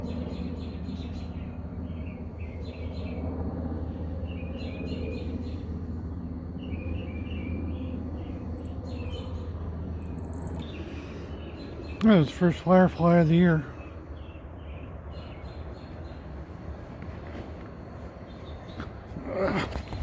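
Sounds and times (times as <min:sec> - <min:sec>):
birds chirping: 0:00.0 - 0:20.0
low outdoor hum: 0:00.0 - 0:20.0.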